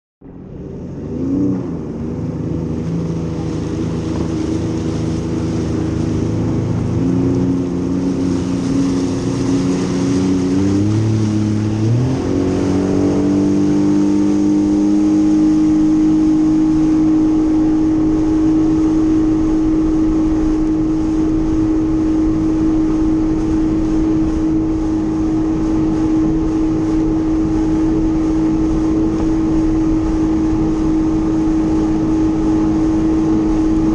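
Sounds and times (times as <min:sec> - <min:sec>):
jet ski engine running: 0:00.2 - 0:33.9.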